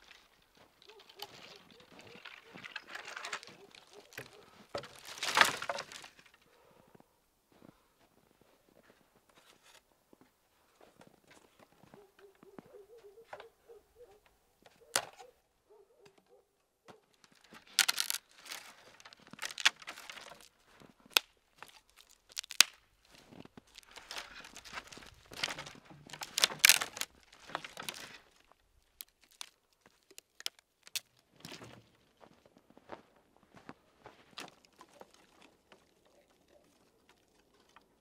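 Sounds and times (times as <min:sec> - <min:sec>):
rustling and crunching: 0:00.0 - 0:09.9, 0:10.7 - 0:38.0.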